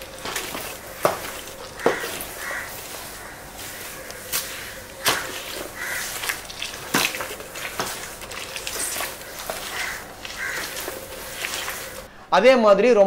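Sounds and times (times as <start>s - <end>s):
wet mop scrubbing tiled floor: 0.0s - 12.1s.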